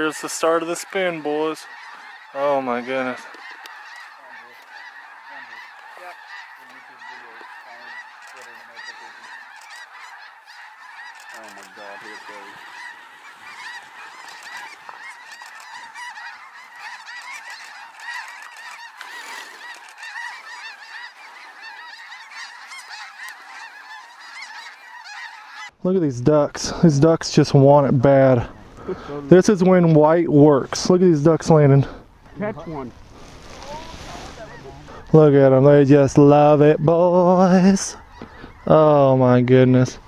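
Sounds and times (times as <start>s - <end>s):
snow geese honking: 0.0s - 25.7s, 26.6s - 40.0s.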